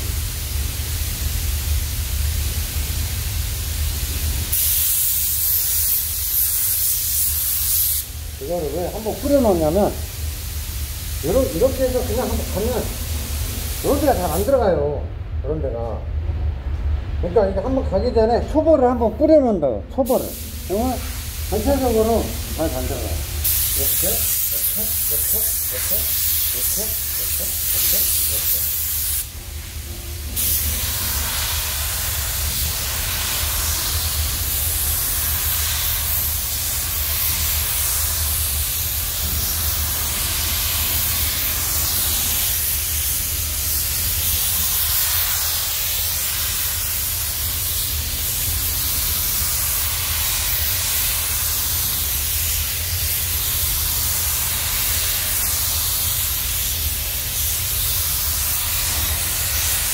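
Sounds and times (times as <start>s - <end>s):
spray gun hissing: 0.0s - 14.7s, 20.0s - 59.9s
steady low hum: 0.0s - 59.9s.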